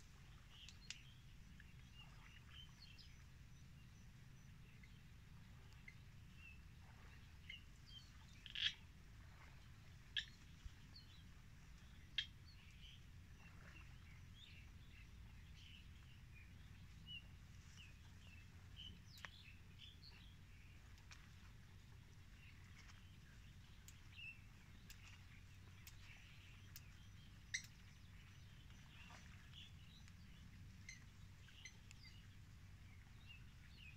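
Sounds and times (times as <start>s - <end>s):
faint low rumble: 0.0s - 33.9s.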